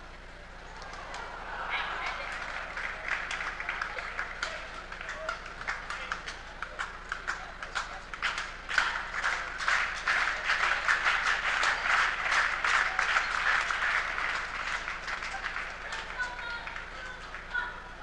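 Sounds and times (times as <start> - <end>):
crowd clapping and applauding: 0.8 - 17.7.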